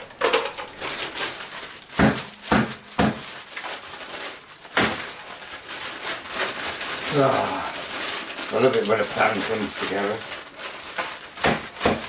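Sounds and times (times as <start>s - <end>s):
handling rustling: 0.0s - 12.0s.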